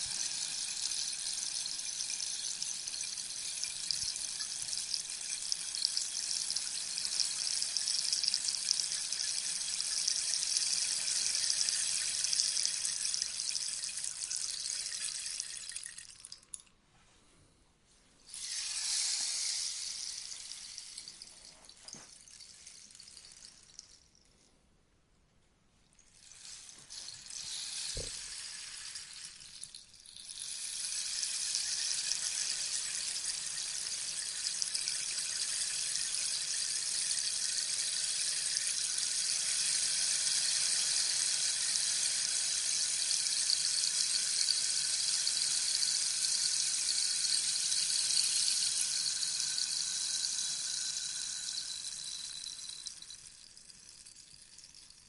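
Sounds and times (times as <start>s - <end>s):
rainstick pellets cascading: 0.0s - 16.7s, 18.3s - 24.3s, 26.0s - 55.0s.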